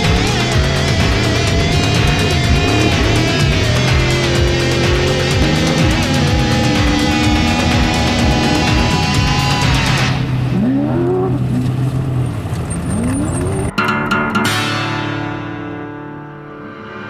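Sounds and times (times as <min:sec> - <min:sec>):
guitar-led music: 0:00.0 - 0:11.4, 0:12.9 - 0:17.0
race car engine revving: 0:00.0 - 0:13.7.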